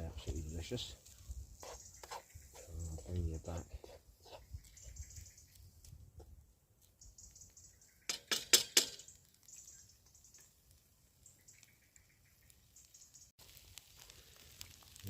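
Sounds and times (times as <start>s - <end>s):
faint sizzle of frying: 0.0s - 15.0s.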